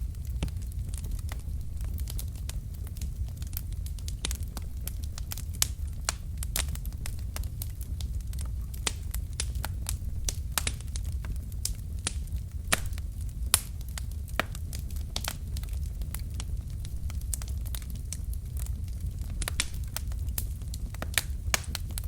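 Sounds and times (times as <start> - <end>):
log fire crackling and popping: 0.0 - 22.0.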